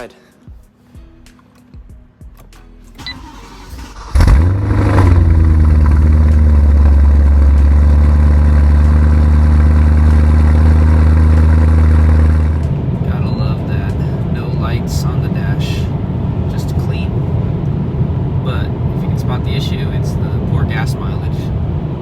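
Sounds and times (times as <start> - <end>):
car engine starting and idling: 2.4 - 22.0.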